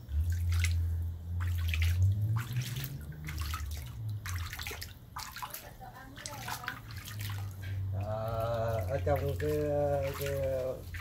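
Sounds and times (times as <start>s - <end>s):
water splashing in pool: 0.0s - 11.0s.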